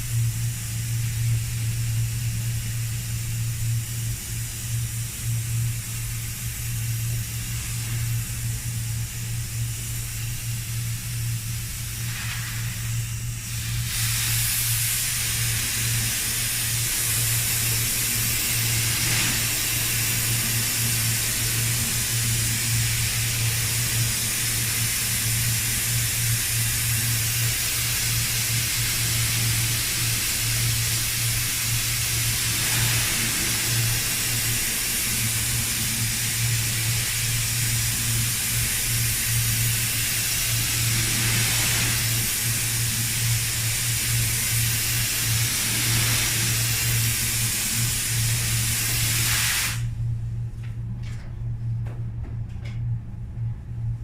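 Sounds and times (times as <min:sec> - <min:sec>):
spray gun hissing: 0:00.0 - 0:49.9
low compressor hum: 0:00.0 - 0:54.0.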